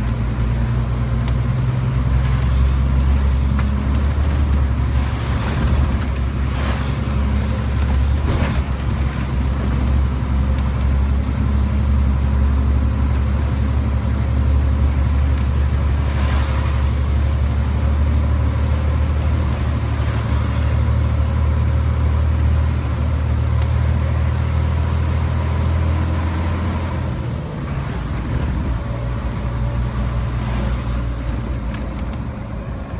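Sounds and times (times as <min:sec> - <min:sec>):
truck diesel engine droning: 0:00.0 - 0:32.9.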